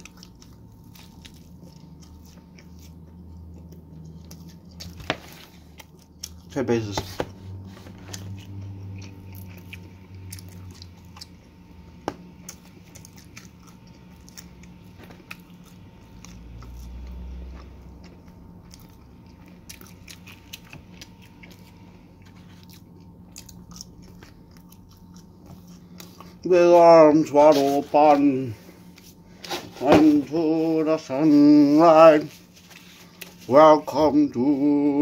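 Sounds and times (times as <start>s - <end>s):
person chewing food: 0.0s - 35.0s
steady low hum: 0.0s - 35.0s.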